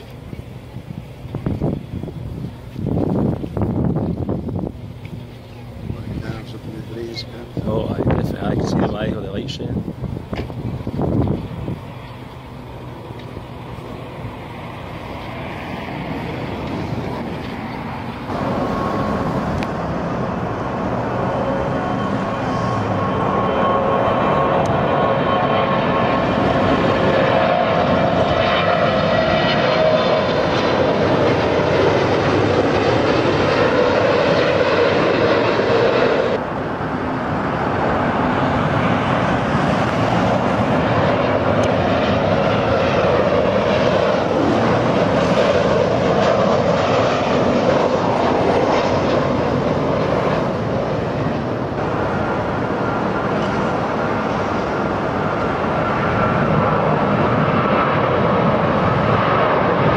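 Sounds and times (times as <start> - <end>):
airplane engines roaring: 0.0 - 59.9.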